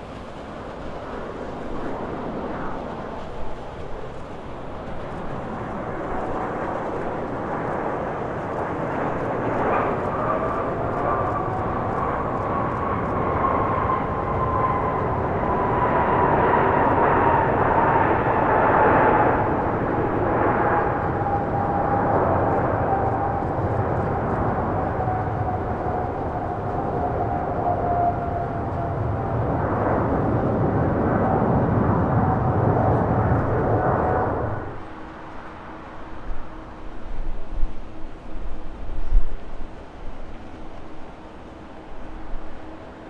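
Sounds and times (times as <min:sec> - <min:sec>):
jet aircraft passing: 0:00.0 - 0:43.0.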